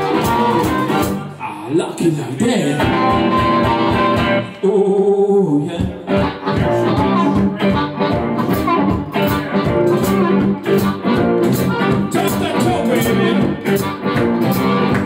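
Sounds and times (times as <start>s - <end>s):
electric guitar: 0.0s - 1.6s, 2.7s - 4.7s, 5.6s - 15.0s
blues band playing: 0.0s - 4.8s, 5.6s - 15.0s.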